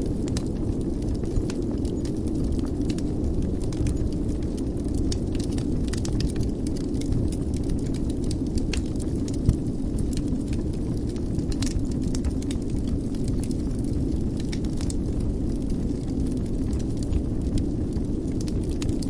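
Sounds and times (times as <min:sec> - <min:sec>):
fire crackling: 0:00.0 - 0:19.0
wood fire rumbling: 0:00.0 - 0:19.0.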